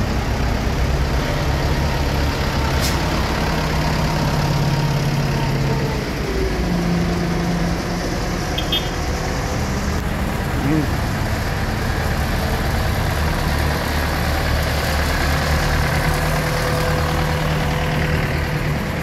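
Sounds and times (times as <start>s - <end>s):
tractor diesel engines passing: 0.0s - 19.0s.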